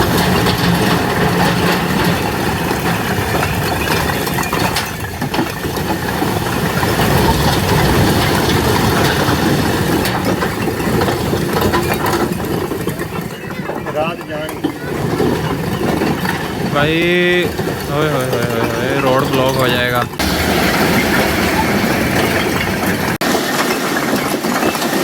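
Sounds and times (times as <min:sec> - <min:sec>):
bricks clattering: 0:00.0 - 0:25.0
tractor engine running: 0:00.0 - 0:25.0.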